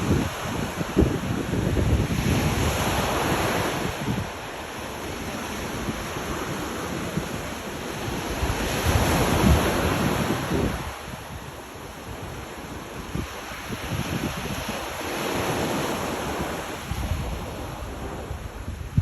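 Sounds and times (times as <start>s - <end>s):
sea waves washing ashore: 0.0s - 19.0s
wind buffeting microphone: 0.0s - 19.0s.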